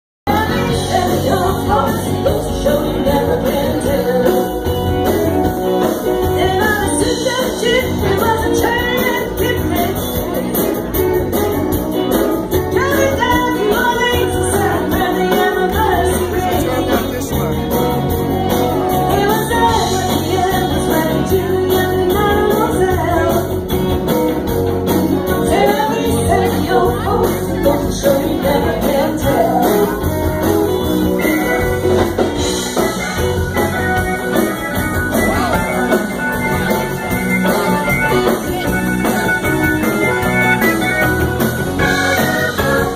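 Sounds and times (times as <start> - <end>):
live rock band playing: 0.2 - 42.9.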